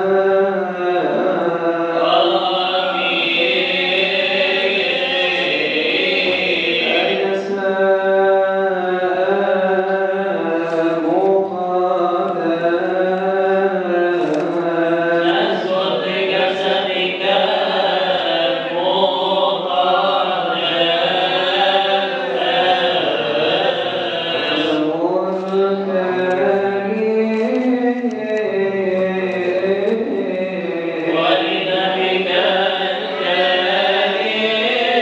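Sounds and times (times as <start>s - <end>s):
man chanting into a microphone: 0.0s - 35.0s.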